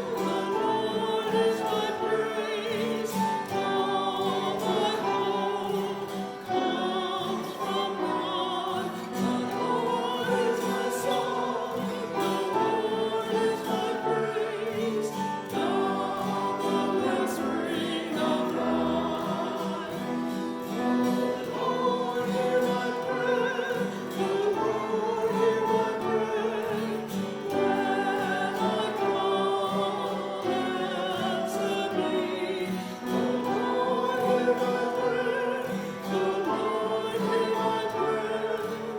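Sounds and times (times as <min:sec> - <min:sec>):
choir singing held notes: 0:00.0 - 0:38.9.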